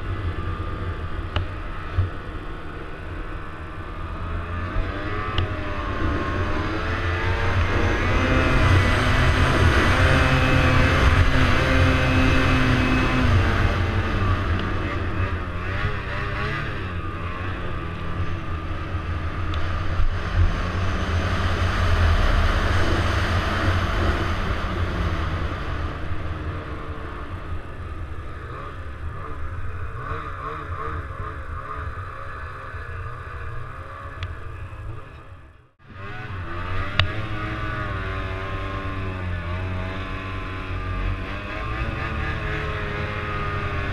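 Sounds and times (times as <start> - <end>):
snowmobile engine under throttle: 0.0 - 43.9.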